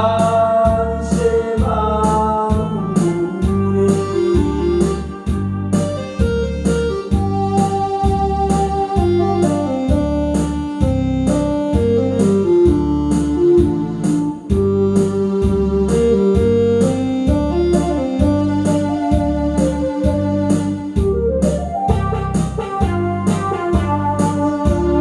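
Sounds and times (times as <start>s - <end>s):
steady beat and bass: 0.0s - 25.0s
electronic keyboard melody: 2.4s - 25.0s.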